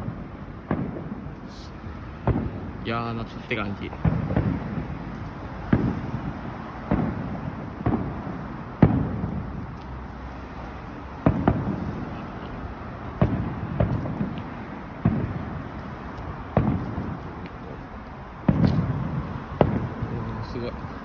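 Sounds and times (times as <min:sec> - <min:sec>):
fireworks booming: 0:00.0 - 0:21.0.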